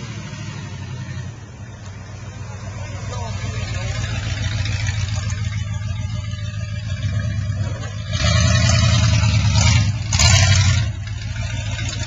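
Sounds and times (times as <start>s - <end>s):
truck engine driving past: 0.0s - 12.0s.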